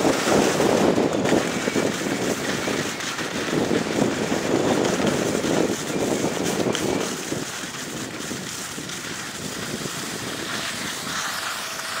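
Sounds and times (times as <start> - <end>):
ski edges scraping on snow: 0.0 - 12.0
wind buffeting microphone: 0.0 - 12.0.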